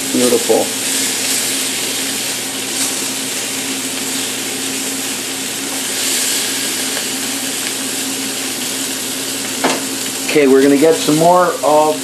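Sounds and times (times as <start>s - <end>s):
fan humming: 0.0s - 12.0s
meat sizzling in a frying pan: 0.0s - 12.0s.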